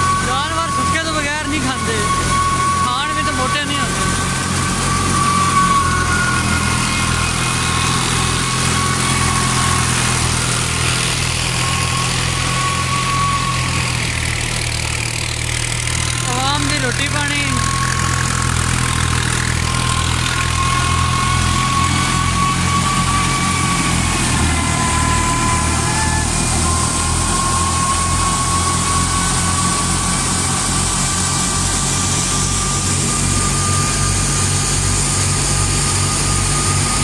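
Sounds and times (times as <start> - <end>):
thresher whining: 0.0 - 37.0
tractor engine chugging: 0.0 - 37.0.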